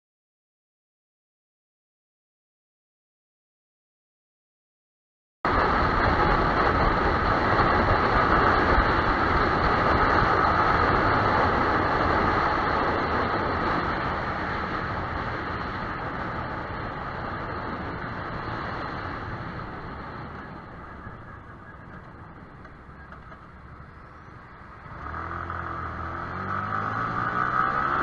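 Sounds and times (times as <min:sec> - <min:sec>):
motorcycle engine roar: 0:05.5 - 0:28.0
wind rushing past microphone: 0:05.5 - 0:28.0.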